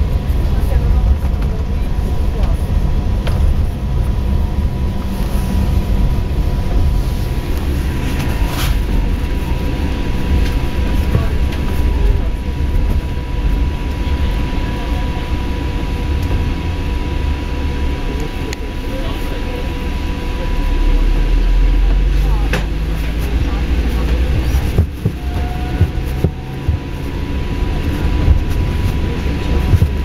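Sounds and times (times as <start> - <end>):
bus engine and road rumble: 0.0 - 30.0
thin steady whine: 0.0 - 30.0.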